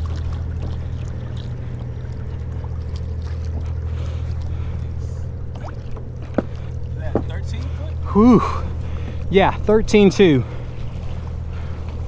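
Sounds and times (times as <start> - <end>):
pedal kayak low hum: 0.0 - 12.0
water running along hull: 0.0 - 12.0.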